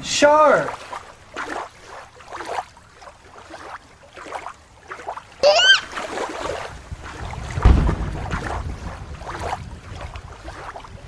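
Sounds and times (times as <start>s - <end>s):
rush of water: 0.0s - 11.0s
water sloshing and splashing: 0.0s - 11.0s.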